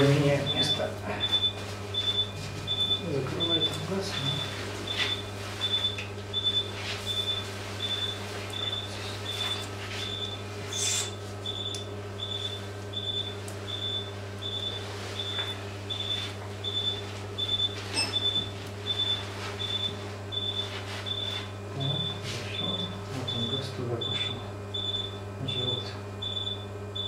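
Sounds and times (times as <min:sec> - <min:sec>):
patient monitor high beeps: 0:00.0 - 0:10.4, 0:11.0 - 0:27.0
low equipment hum: 0:00.0 - 0:27.0.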